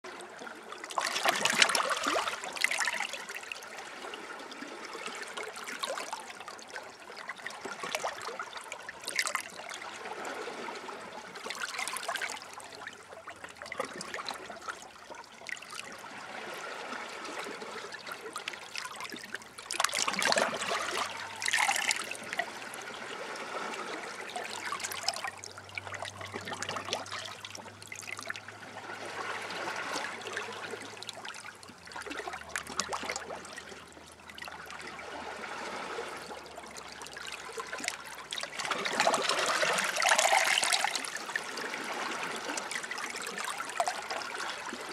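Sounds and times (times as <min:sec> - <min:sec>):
seawater sloshing over rocks: 0:00.1 - 0:44.9.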